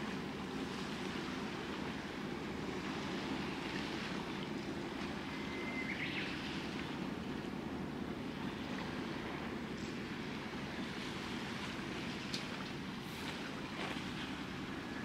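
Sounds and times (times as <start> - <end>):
distant boat engine drone: 0.0 - 15.0
sea wash: 0.0 - 15.0.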